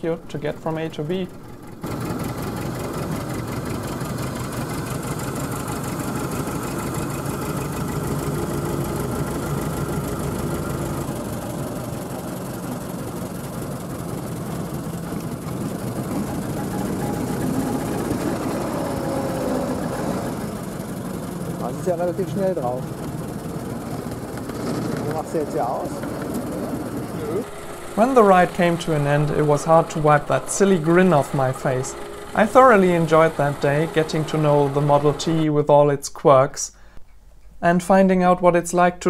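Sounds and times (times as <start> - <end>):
car engine chugging: 0.0 - 35.7.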